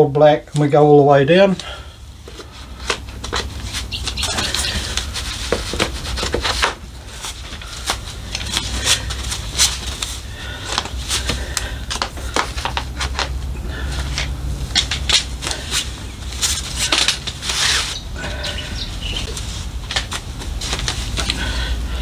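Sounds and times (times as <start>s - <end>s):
low steady hum: 0.0s - 22.0s
fabric rustling: 2.2s - 21.8s.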